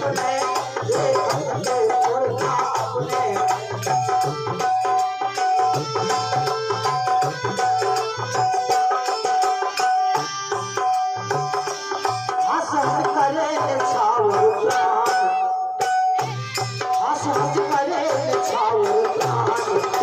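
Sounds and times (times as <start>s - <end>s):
person singing: 0.0s - 8.3s, 9.5s - 15.6s, 16.2s - 20.0s
dholak drum rhythm: 0.0s - 20.0s
harmonium melody: 0.0s - 20.0s.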